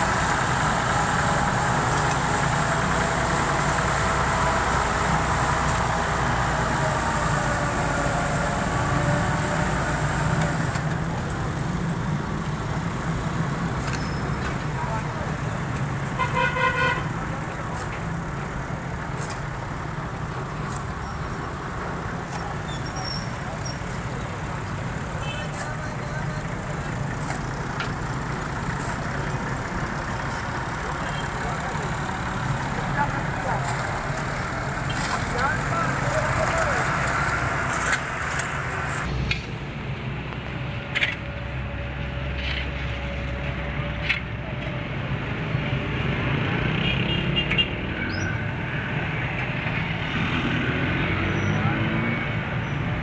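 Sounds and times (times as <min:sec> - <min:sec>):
vehicle engine rumble: 0:00.0 - 0:53.0.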